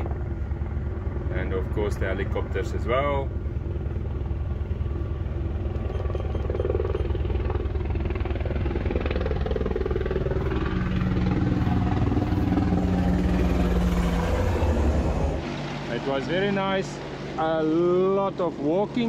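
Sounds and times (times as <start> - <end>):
helicopter rotor beat: 0.0 - 19.0
steady hum: 0.0 - 19.0.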